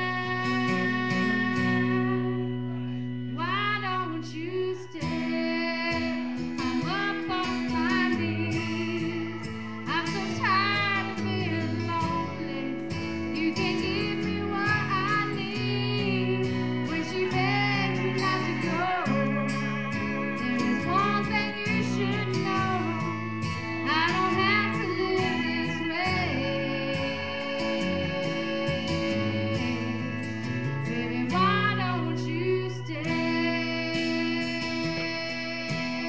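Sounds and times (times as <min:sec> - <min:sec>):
guitar chords: 0:00.0 - 0:36.0
woman singing: 0:00.0 - 0:36.0.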